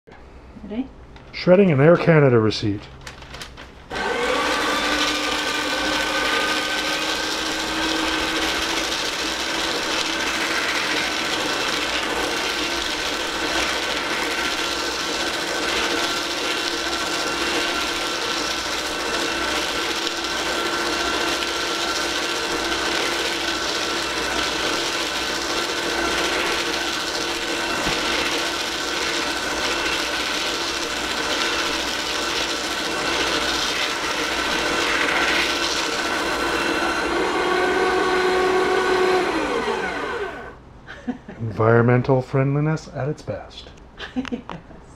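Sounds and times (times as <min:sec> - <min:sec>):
paper shredder motor whining: 0:03.0 - 0:40.6.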